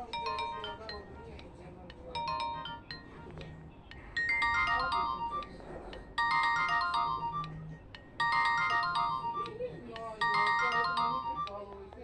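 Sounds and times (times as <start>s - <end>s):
mobile phone ringtone: 0.0s - 12.0s.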